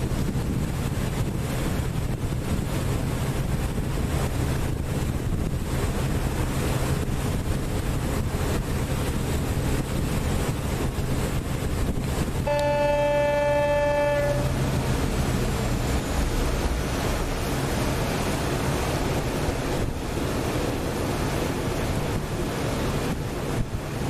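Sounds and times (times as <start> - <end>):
boat engine humming: 0.0 - 24.0
water rushing past hull: 0.0 - 24.0
wind buffeting microphone: 0.0 - 24.0.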